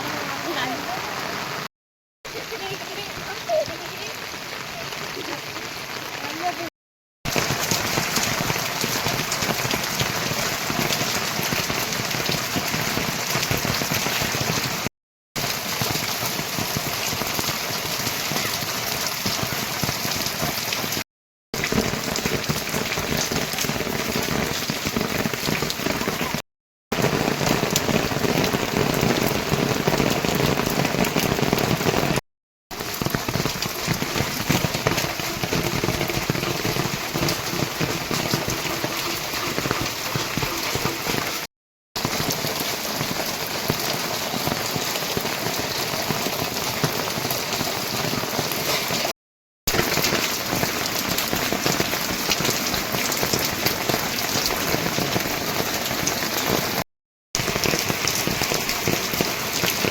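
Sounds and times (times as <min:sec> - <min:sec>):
heavy rain falling: 0:00.0 - 0:01.7, 0:02.3 - 0:06.7, 0:07.3 - 0:21.0, 0:21.6 - 0:49.1, 0:49.7 - 0:56.8, 0:57.4 - 0:59.9.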